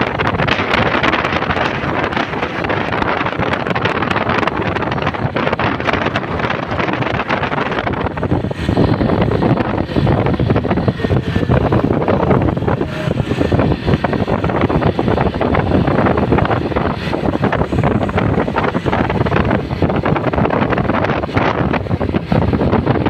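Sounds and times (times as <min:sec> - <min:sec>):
road and engine noise: 0:00.0 - 0:23.0
wind buffeting microphone: 0:00.0 - 0:23.0.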